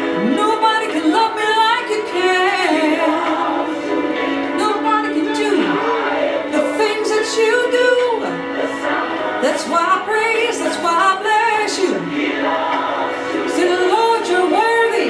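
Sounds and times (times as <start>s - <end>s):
gospel singing voices: 0.0s - 15.0s
sustained instrumental accompaniment: 0.0s - 15.0s.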